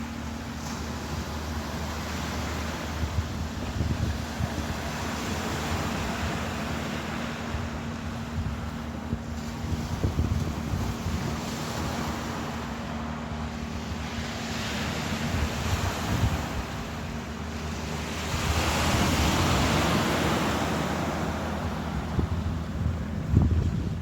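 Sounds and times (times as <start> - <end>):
low wind rumble: 0.0 - 24.0
ocean waves washing: 0.0 - 24.0.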